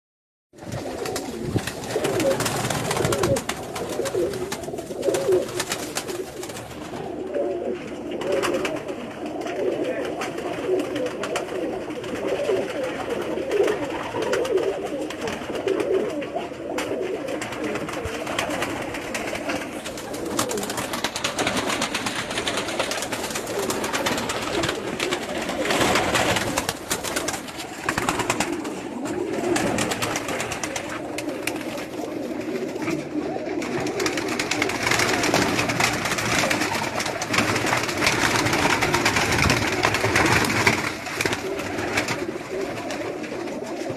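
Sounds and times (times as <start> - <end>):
pigeons cooing: 0.6 - 43.9.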